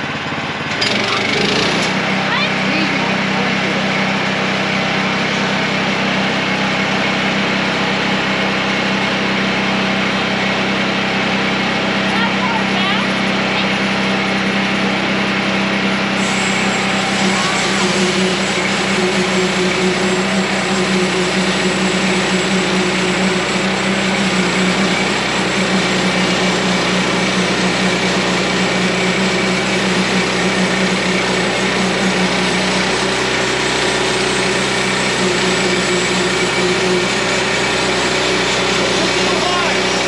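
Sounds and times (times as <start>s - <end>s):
band sawmill cutting log: 0.0s - 40.0s.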